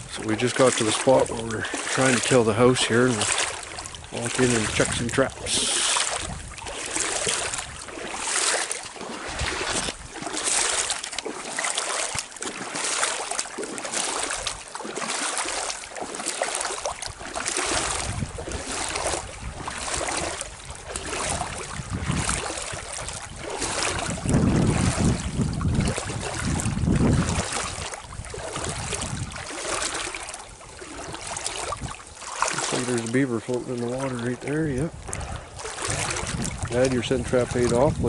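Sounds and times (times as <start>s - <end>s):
wind buffeting microphone: 0.0s - 11.0s, 16.8s - 38.0s
wet footsteps: 0.0s - 38.0s.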